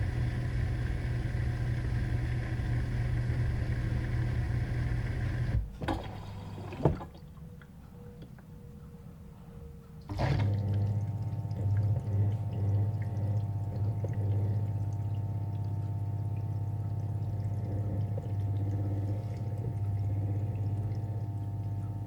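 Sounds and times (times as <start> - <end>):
appliance humming: 0.0 - 22.0.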